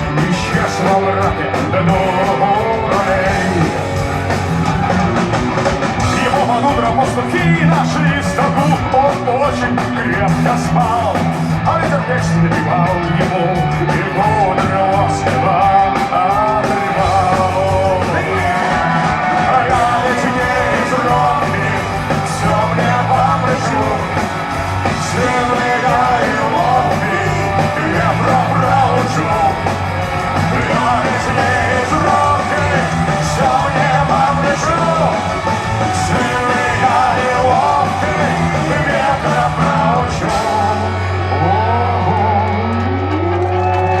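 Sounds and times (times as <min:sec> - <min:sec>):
rock band playing: 0:00.0 - 0:44.0.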